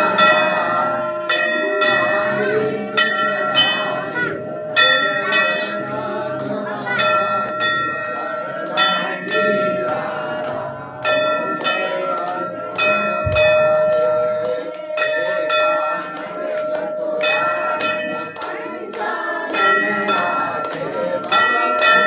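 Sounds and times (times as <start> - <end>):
brass bell ringing: 0.0 - 10.3, 11.0 - 22.0
voices singing: 0.0 - 22.0.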